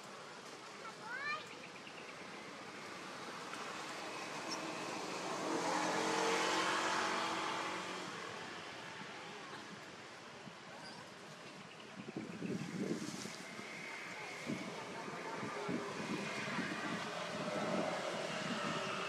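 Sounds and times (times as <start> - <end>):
passing motor vehicle: 2.3 - 10.6, 11.6 - 19.0.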